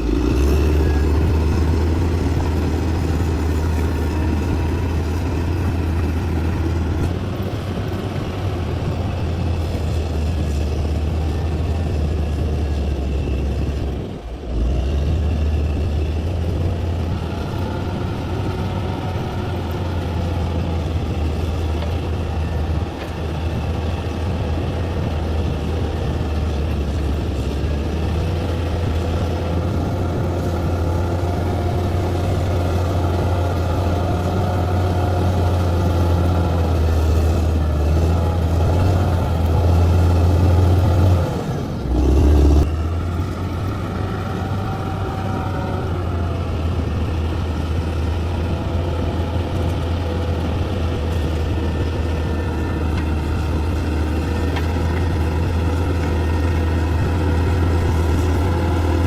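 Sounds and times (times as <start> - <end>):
bulldozer diesel engine rumbling: 0.0 - 59.0.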